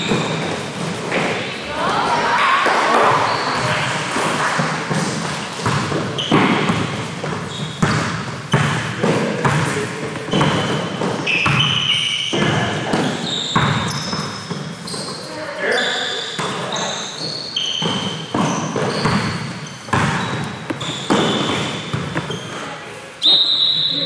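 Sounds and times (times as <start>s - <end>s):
basketball bouncing in echoing gym: 0.0s - 24.0s.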